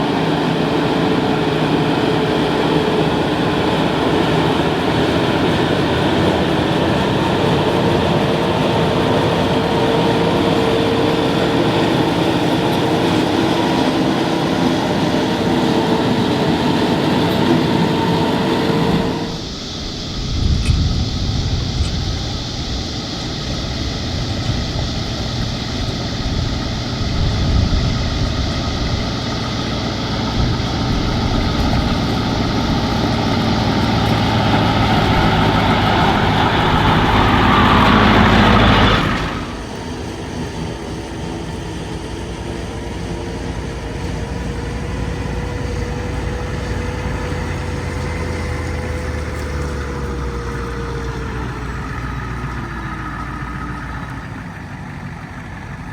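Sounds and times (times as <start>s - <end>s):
thin steady whine: 0.0s - 55.9s
tractor engine and chopper noise: 0.0s - 55.9s.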